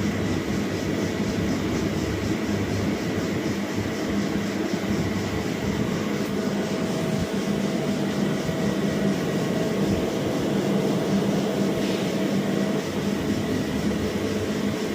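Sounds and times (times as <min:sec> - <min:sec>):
cnc machine running: 0:00.0 - 0:14.9.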